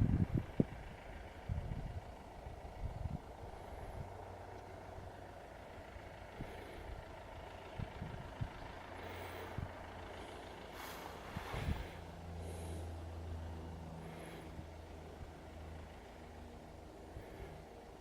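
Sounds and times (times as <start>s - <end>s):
distant tractor diesel engine: 0.0s - 18.0s.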